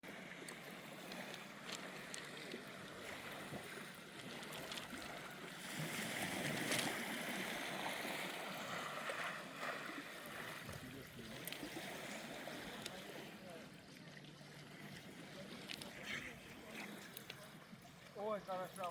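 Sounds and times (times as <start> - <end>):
gentle sea waves washing: 0.0 - 18.9.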